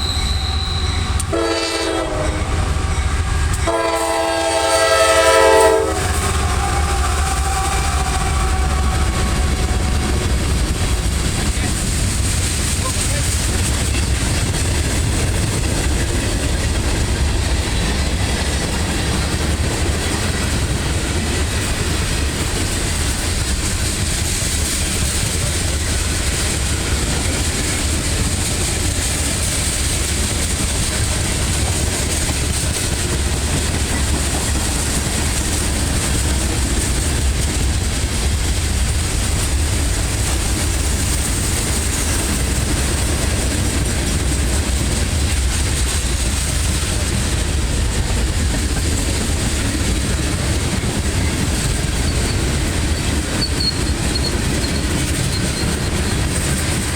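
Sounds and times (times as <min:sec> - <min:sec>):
freight train wheels on track: 0:00.0 - 0:56.9.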